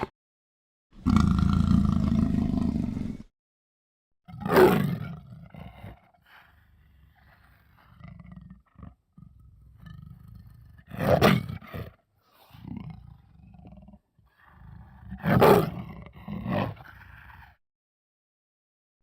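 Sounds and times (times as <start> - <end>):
creature roaring: 1.0 - 3.3, 4.3 - 17.6.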